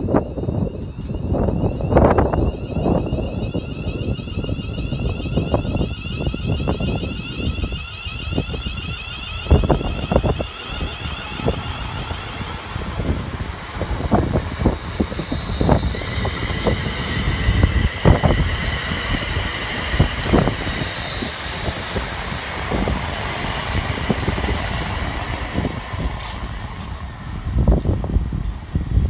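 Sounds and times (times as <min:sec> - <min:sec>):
electric train whine: 0:00.0 - 0:29.0
wind buffeting microphone: 0:00.0 - 0:29.0.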